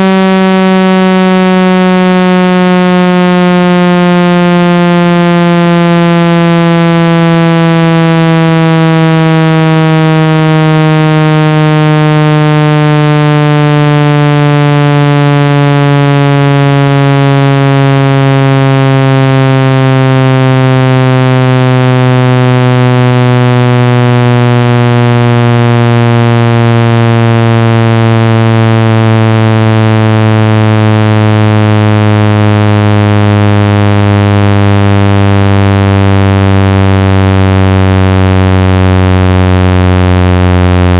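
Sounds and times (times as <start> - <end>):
buzzy electronic tone sliding down: 0.0 - 40.9.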